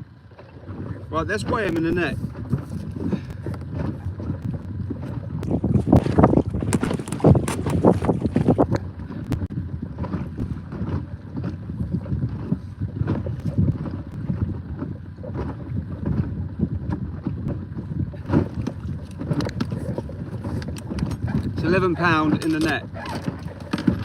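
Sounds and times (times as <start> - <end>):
wind buffeting microphone: 0.0 - 24.0
microphone handling noise: 0.8 - 24.0.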